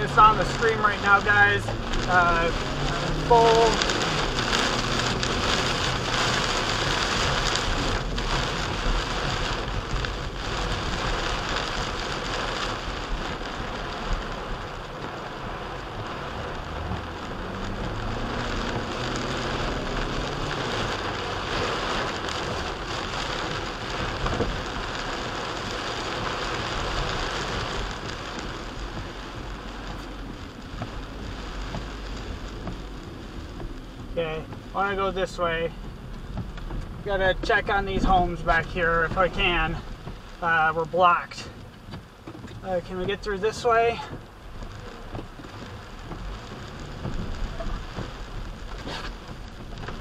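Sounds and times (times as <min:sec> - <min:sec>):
heavy rain on car windshield: 0:00.0 - 0:50.0.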